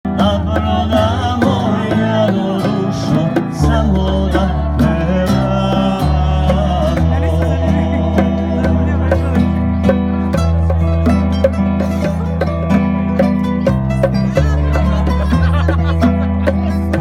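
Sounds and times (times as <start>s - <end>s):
acoustic guitar: 0.0s - 17.0s
bongos steady beat: 0.1s - 17.0s.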